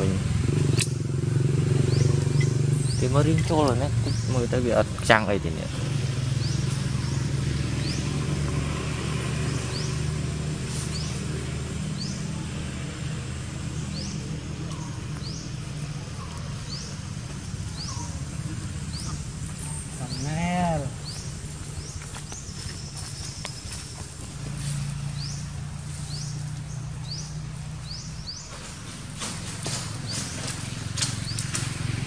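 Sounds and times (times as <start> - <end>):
steady low hum: 0.0 - 31.8.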